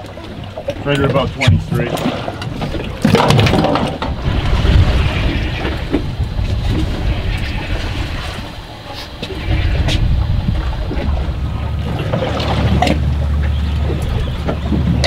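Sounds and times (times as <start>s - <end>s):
water sloshing around boat: 0.0s - 15.0s
wind buffeting microphone: 0.0s - 15.0s.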